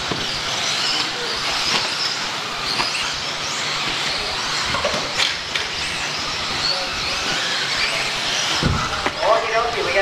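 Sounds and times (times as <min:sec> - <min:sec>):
electric toy car motors whining: 0:00.0 - 0:10.0.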